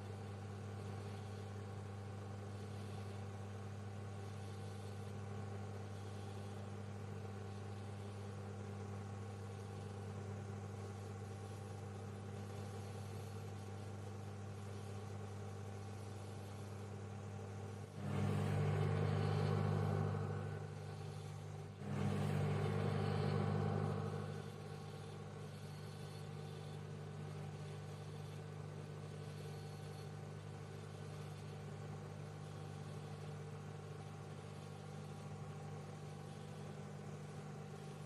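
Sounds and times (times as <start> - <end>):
microwave oven humming: 0.0 - 38.0.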